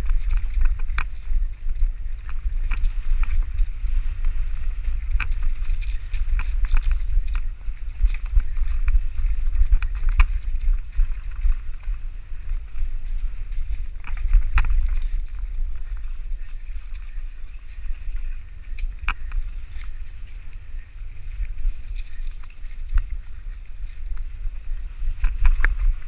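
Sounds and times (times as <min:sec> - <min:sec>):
bike clicks and rattles: 0:00.0 - 0:26.0
wind buffeting microphone: 0:00.0 - 0:26.0.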